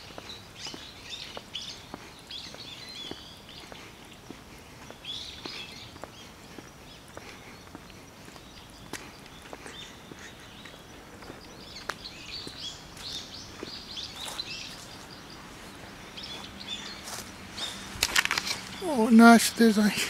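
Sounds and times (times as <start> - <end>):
faint outdoor background noise: 0.0 - 20.0
small birds chirping: 0.0 - 20.0.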